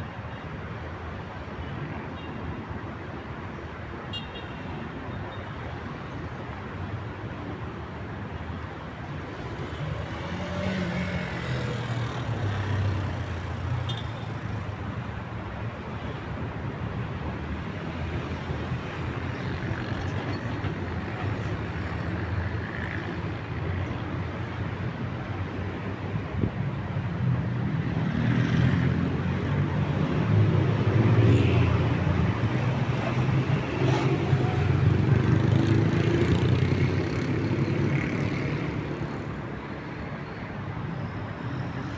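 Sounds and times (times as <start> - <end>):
steady road traffic: 0.0 - 41.9.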